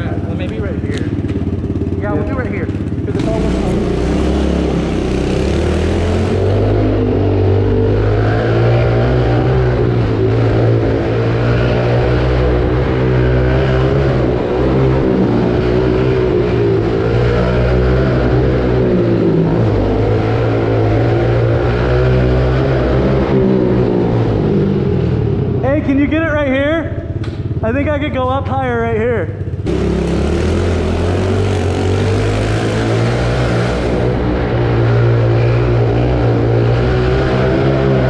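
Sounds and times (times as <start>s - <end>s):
pit bike engine running: 0.0s - 38.0s.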